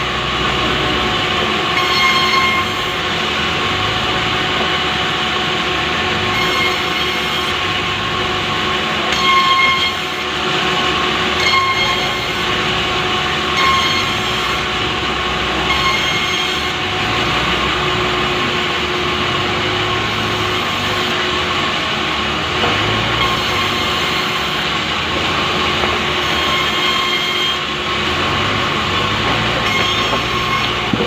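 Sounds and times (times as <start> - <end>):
power saw cutting log: 0.0 - 31.0
saw whine: 0.0 - 31.0.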